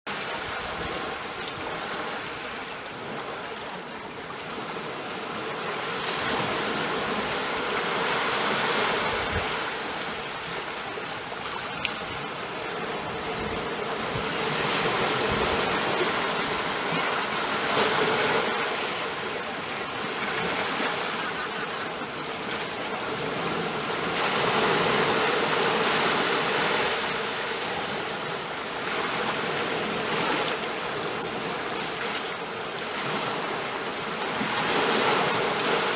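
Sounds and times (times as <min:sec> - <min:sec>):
sea waves washing in: 0:00.1 - 0:35.9.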